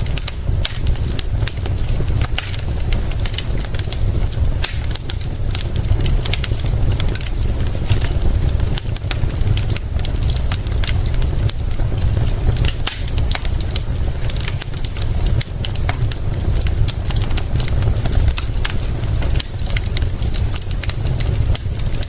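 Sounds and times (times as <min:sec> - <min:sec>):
fire crackling: 0:00.0 - 0:22.0
rain hissing: 0:00.0 - 0:22.0.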